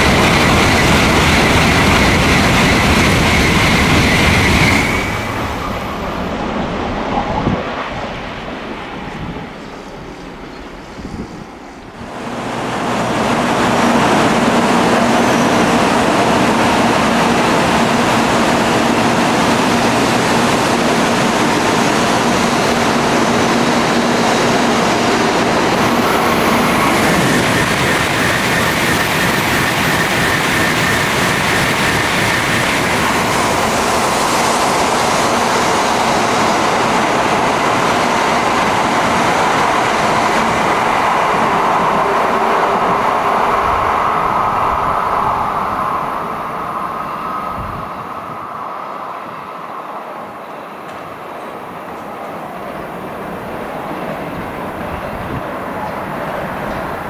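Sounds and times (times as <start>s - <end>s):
train passing at high speed: 0.0s - 57.0s.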